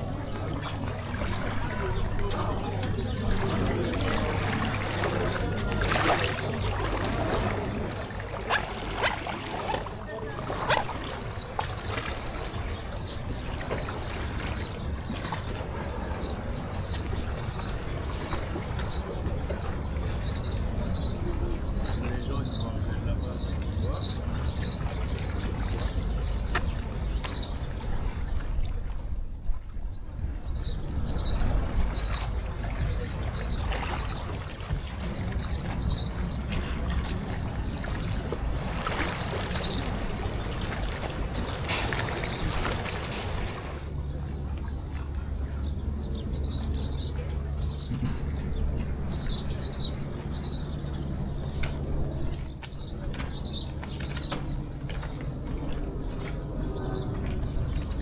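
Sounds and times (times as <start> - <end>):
small birds chirping: 0.0 - 27.6, 32.0 - 58.0.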